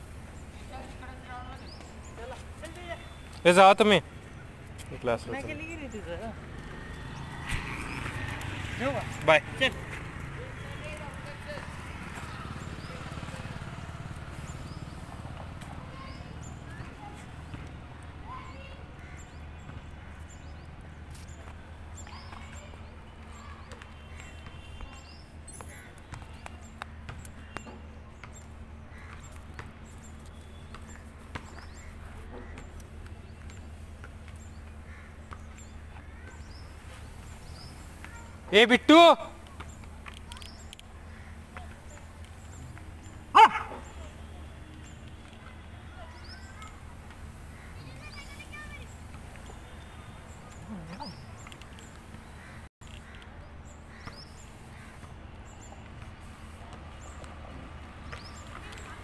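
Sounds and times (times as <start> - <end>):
small birds chirping: 0.1 - 59.0.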